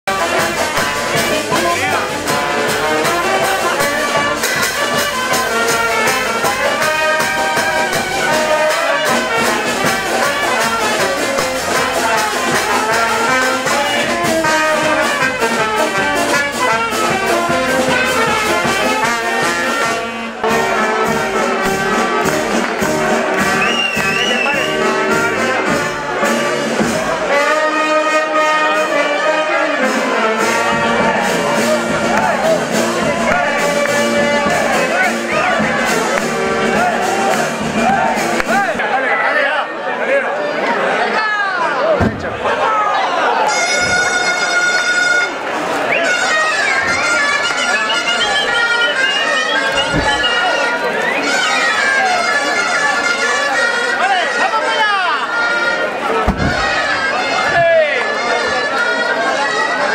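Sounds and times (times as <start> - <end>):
brass band playing: 0.0 - 39.5, 40.5 - 59.9.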